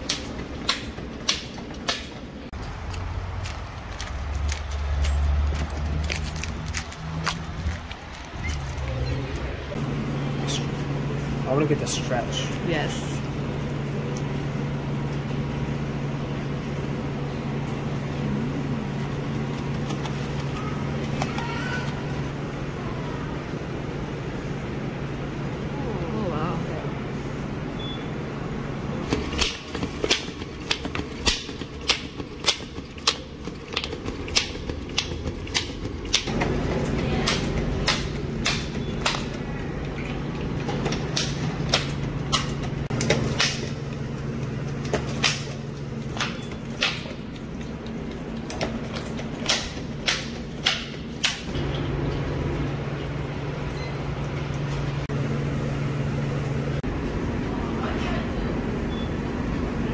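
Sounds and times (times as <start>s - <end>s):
machinery motor hum: 0.0s - 59.9s.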